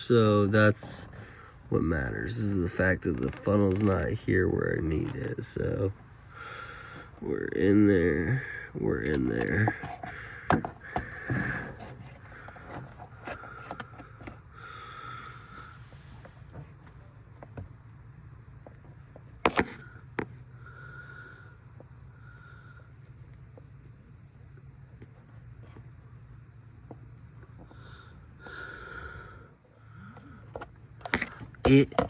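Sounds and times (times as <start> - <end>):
high insect trill: 0.0 - 32.0.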